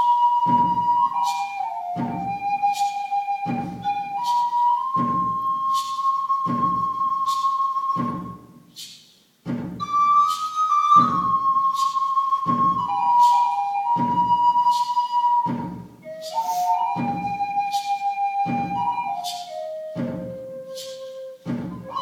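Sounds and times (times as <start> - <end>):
flute playing slow melody: 0.0 - 8.4, 9.8 - 22.0
low drum beat: 0.1 - 7.3, 7.9 - 8.7, 9.3 - 22.0.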